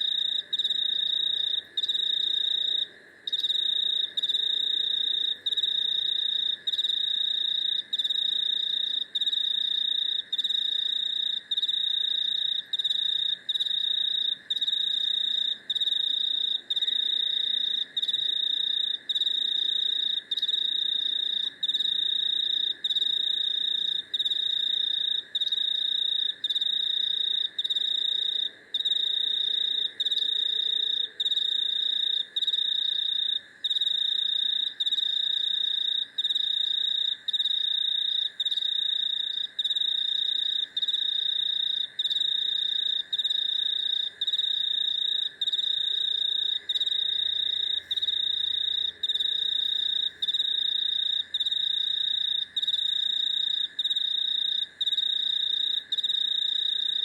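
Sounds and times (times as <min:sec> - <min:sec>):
cricket trilling: 0:00.0 - 0:57.0
faint insect drone: 0:00.0 - 0:57.0.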